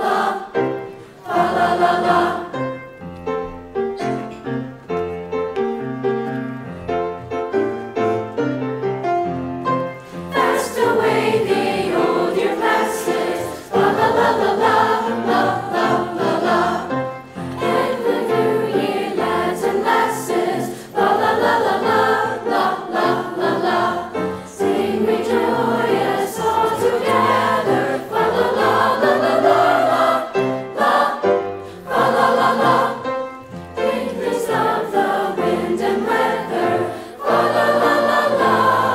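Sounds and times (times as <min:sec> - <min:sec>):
choir singing: 0:00.0 - 0:02.9, 0:09.9 - 0:38.9.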